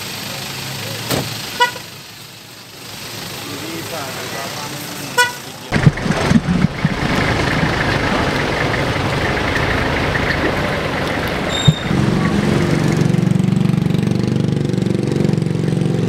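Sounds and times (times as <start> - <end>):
vehicle engine idling: 0.0 - 14.3
street and vehicle noise: 0.0 - 16.0.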